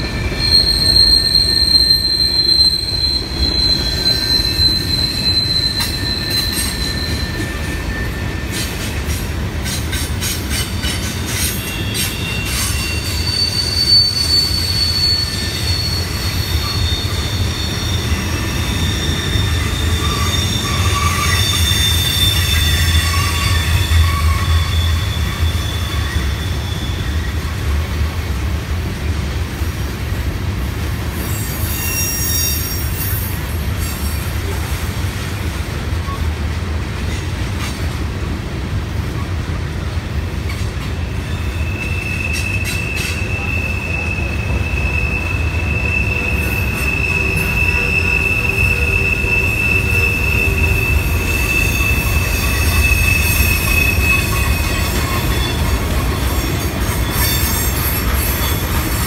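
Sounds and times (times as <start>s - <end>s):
train wheels squealing: 0.0s - 27.9s, 31.1s - 35.3s, 35.9s - 36.3s, 40.4s - 59.0s
train rumbling past: 0.0s - 59.0s.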